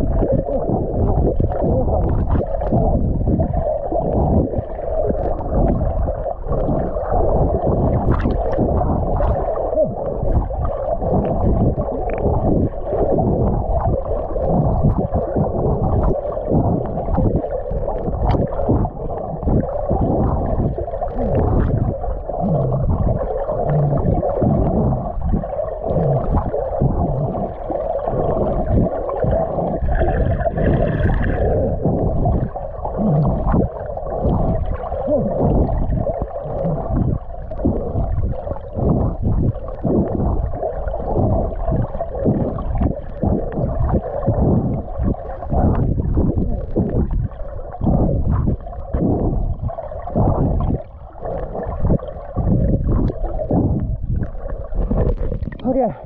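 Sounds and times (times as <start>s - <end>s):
muffled underwater water sloshing: 0.0s - 56.0s.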